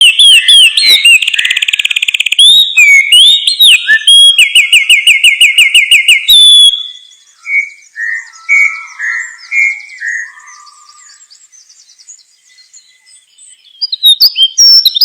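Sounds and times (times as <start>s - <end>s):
songbird singing whistled phrases: 0.0s - 15.0s.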